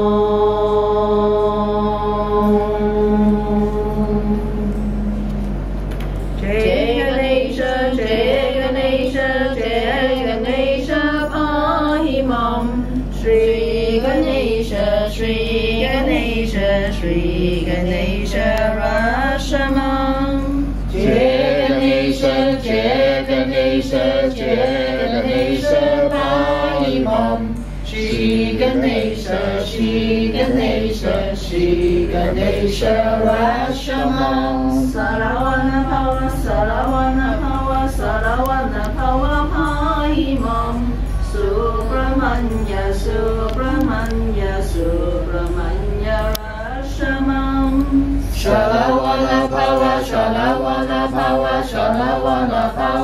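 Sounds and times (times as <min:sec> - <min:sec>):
group singing chant: 0:00.0 - 0:05.6, 0:06.4 - 0:53.0
steady low hum: 0:00.0 - 0:53.0.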